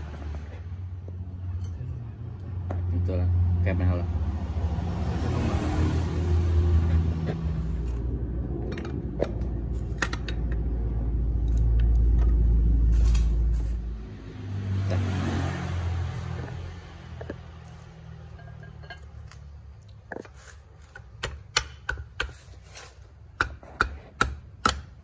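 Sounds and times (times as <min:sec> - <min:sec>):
engine rumbling: 0:00.0 - 0:25.0.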